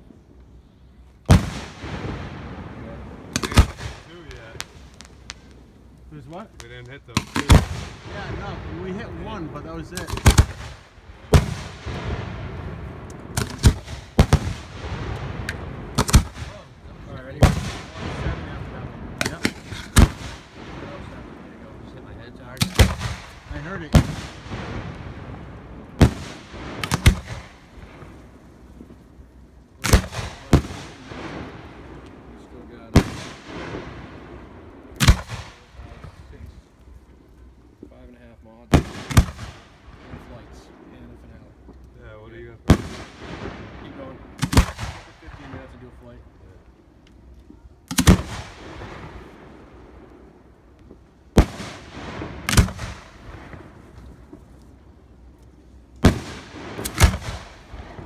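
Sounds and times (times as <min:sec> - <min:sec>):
fireworks bangs with rumble: 0:01.2 - 0:46.8, 0:47.5 - 0:58.0.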